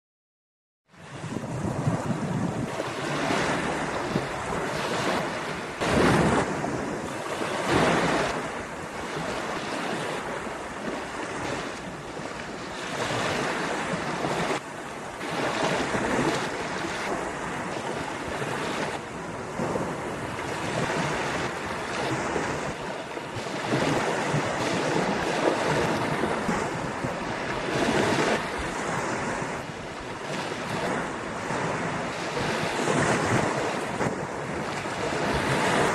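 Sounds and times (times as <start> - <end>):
ocean waves breaking on a beach: 0.9 - 35.9
wind buffeting microphone: 0.9 - 35.9.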